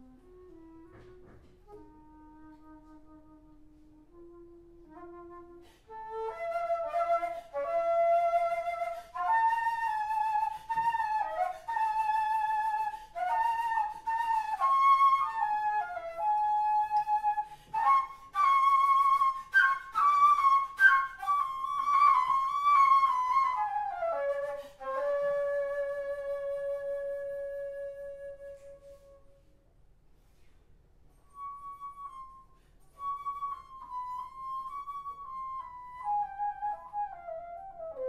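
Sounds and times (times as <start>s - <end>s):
alto flute melody: 0.0s - 29.6s, 31.1s - 38.0s.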